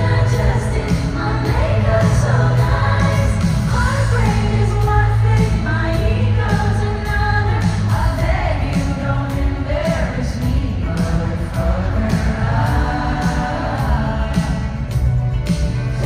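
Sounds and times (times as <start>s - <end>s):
live pop band: 0.0s - 16.0s.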